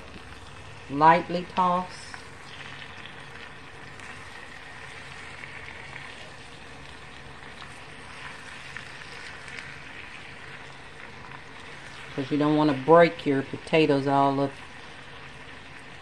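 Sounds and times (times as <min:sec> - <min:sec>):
spatula turning food: 0:00.0 - 0:15.8
potatoes sizzling in a skillet: 0:00.0 - 0:16.0.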